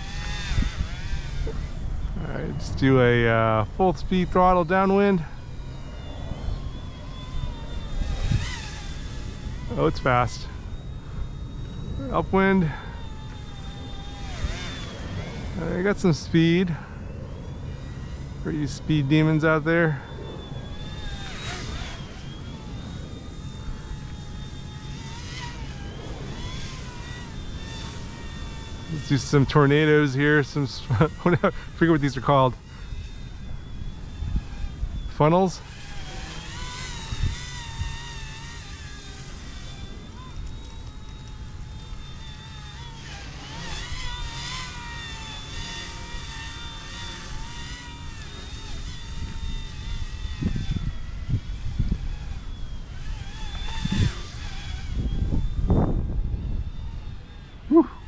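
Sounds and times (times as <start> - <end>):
toy helicopter rotor whine: 0.0 - 58.0
wind rumbling on microphone: 0.0 - 58.0.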